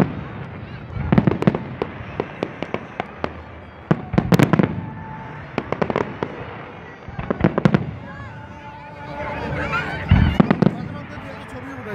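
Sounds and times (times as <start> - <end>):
fireworks bangs and pops: 0.0 - 8.4, 9.9 - 11.9.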